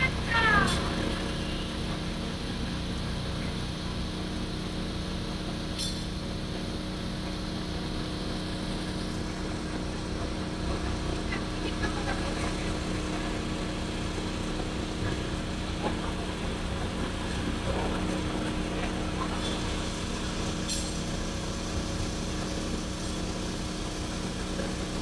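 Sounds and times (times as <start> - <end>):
street noise: 0.0 - 25.0
vehicle engine idling: 0.0 - 25.0.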